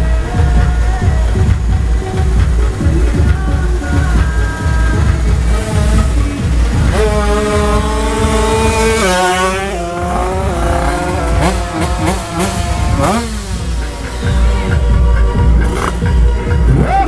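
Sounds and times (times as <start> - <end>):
motorcycle engines revving at full throttle: 0.0 - 17.0.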